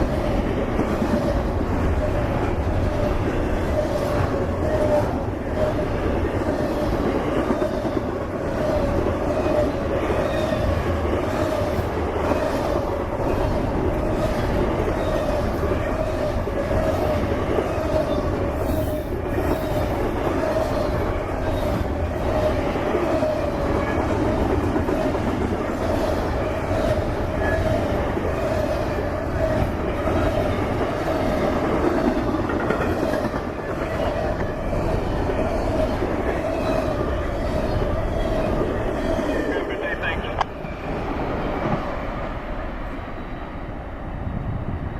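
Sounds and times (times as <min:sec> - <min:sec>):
wheels clacking over rail joints: 0:00.0 - 0:39.6
wheels ringing on rails: 0:00.0 - 0:43.6
freight train rumble: 0:00.0 - 0:44.9.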